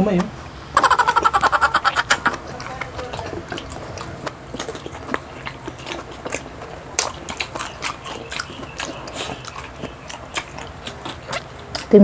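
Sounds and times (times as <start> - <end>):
chewing and crunching food: 0.7 - 12.0.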